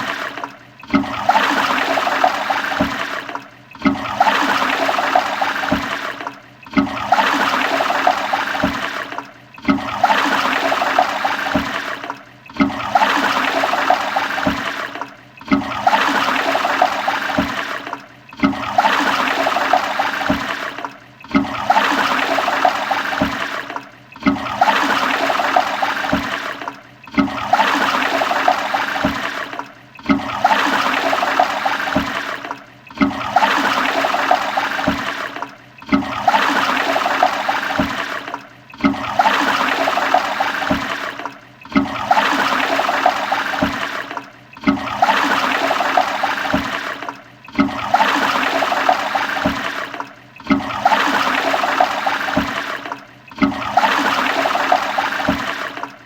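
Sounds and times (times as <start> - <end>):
toilet flushing: 0.0 - 56.0.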